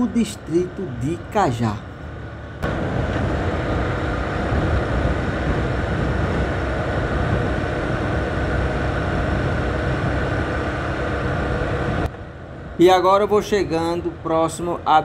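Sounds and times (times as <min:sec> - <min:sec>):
wind rushing over microphone: 0:02.4 - 0:14.9.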